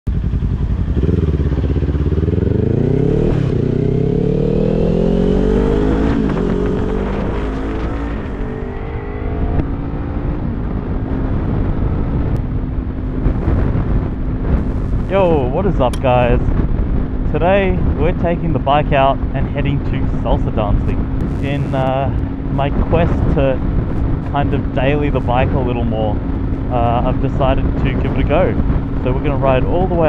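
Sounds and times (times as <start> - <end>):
motorcycle engine accelerating: 0.1 - 30.0
wind noise on microphone: 0.1 - 30.0.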